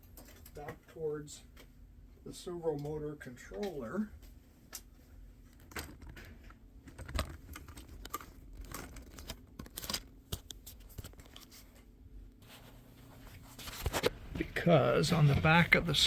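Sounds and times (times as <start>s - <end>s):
cable handling clicks and rustles: 0.0s - 1.8s, 2.6s - 11.9s, 13.1s - 16.0s.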